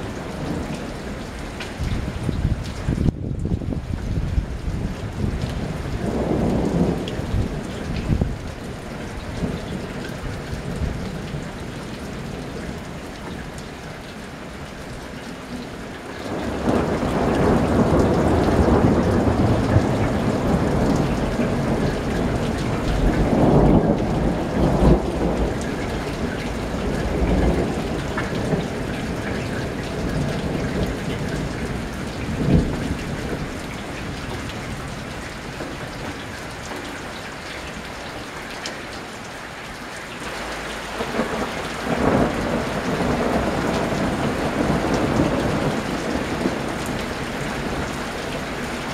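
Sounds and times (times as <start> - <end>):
steady rain: 0.0 - 48.9
rolling thunder: 1.7 - 12.8, 16.3 - 36.4, 40.4 - 48.9.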